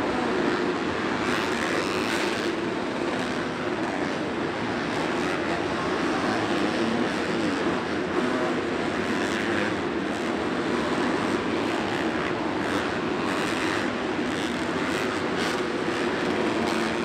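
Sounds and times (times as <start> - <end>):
dirt bike engines racing: 0.0 - 17.0.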